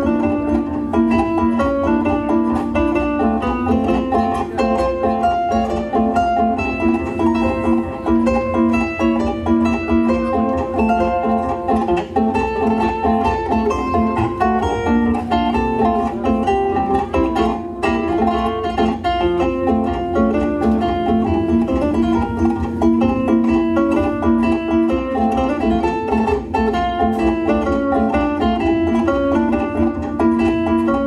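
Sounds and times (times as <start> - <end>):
zither melody over chords: 0.0 - 31.0.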